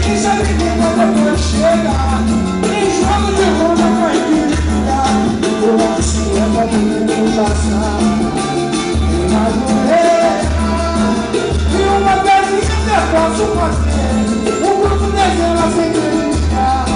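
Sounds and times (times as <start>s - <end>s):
live samba band playing: 0.0s - 16.9s.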